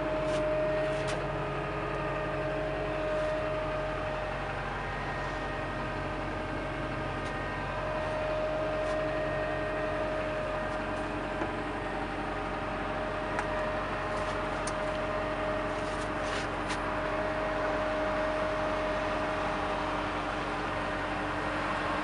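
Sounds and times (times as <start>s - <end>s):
constant whine: 0.0s - 22.0s
diesel engine idling: 0.0s - 22.0s.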